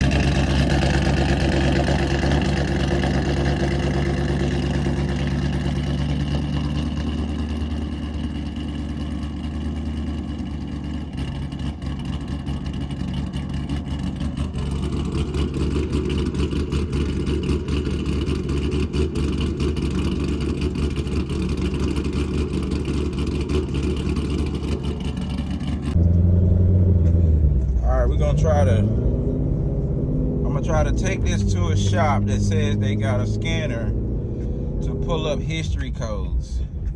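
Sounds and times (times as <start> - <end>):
misfiring car engine running: 0.0 - 36.9.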